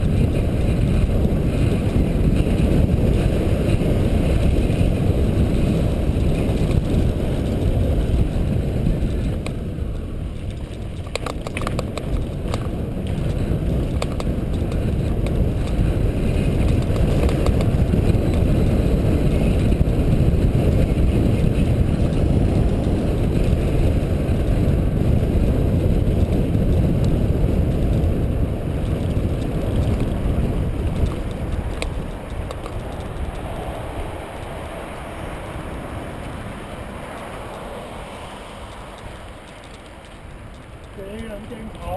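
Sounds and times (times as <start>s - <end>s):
tyres rumbling on dirt trail: 0.0s - 41.9s
wind buffeting microphone: 0.0s - 41.9s.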